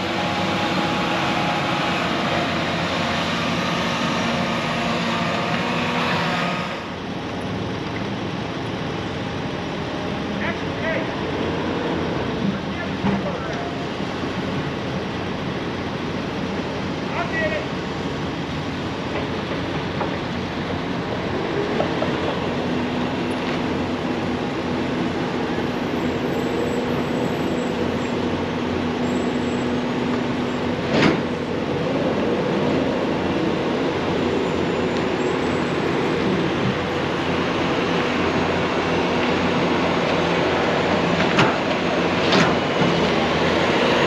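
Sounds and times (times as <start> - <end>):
diesel excavator working rubble: 0.0 - 11.3, 18.7 - 44.0.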